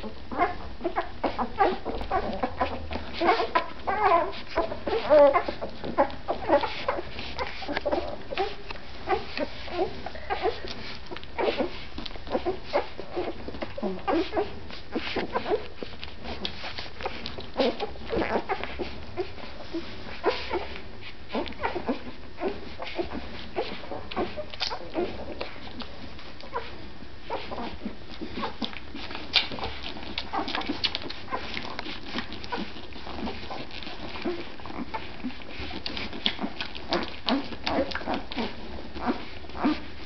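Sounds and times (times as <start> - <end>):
puppies squeaking and whimpering: 0.0 - 40.0.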